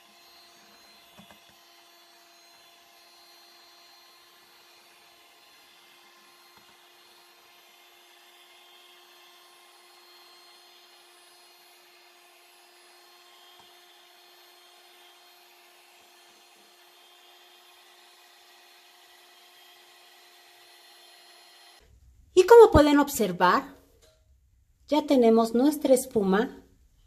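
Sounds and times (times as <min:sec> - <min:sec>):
electric hand mixer whirring: 0:00.0 - 0:21.8.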